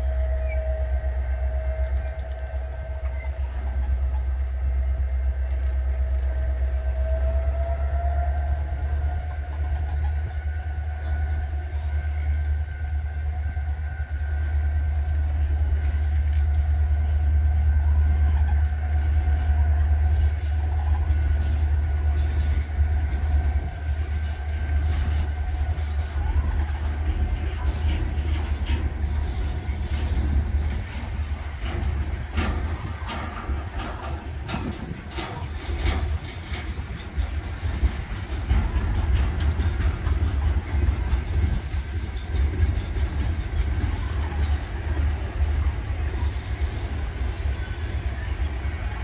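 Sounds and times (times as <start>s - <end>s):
freight cars rumbling on rails: 0.0s - 49.0s.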